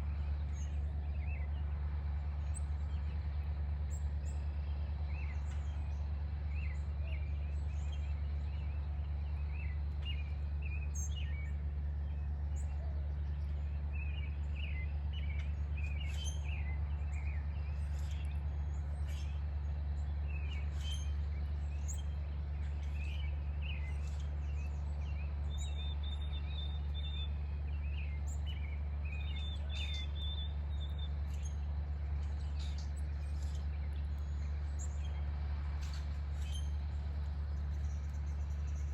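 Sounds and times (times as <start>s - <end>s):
steady low hum: 0.0s - 38.9s
small birds chirping: 2.4s - 38.9s.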